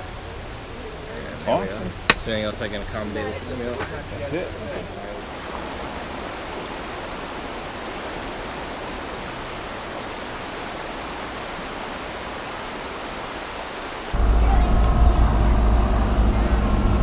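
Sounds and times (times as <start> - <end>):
creek running over stones: 0.0 - 14.2.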